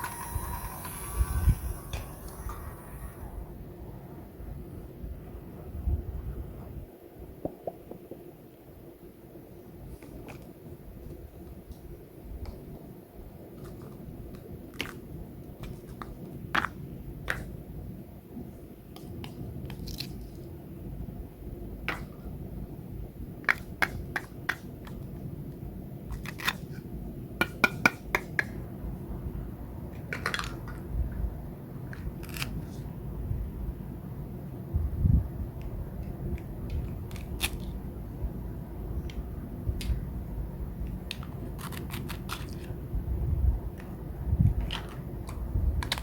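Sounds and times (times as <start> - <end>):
steady low rumble: 0.0 - 7.4, 8.3 - 27.4, 28.5 - 46.0.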